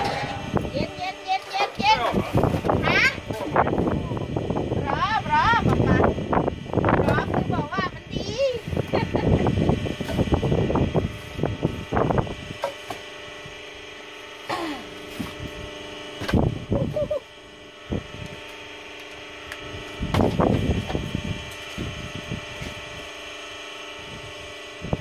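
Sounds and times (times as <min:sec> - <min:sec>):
steady motor hum: 0:00.0 - 0:25.0.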